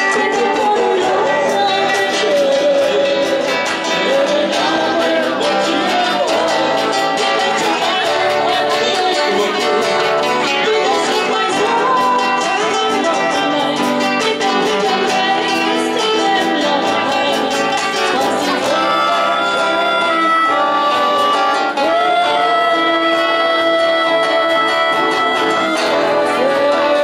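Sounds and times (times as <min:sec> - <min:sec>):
cajon drum: 0:00.0 - 0:27.0
melodica: 0:00.0 - 0:27.0
strummed acoustic guitars: 0:00.0 - 0:27.0
woman singing: 0:00.0 - 0:27.0.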